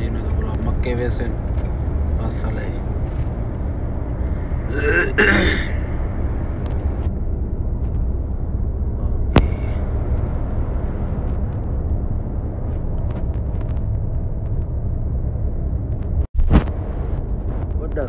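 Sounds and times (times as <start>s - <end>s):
truck engine and tyres rumbling: 0.0s - 18.0s.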